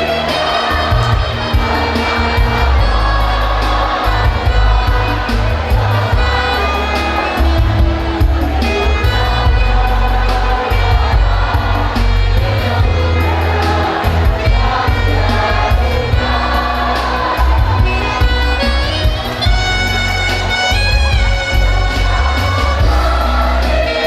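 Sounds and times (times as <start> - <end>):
choir singing: 0.0 - 24.0
instrumental backing with bass line: 0.0 - 24.0.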